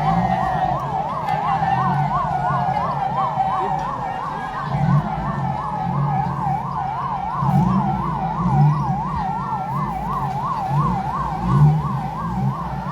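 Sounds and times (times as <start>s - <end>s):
electronic siren yelping: 0.0s - 12.9s.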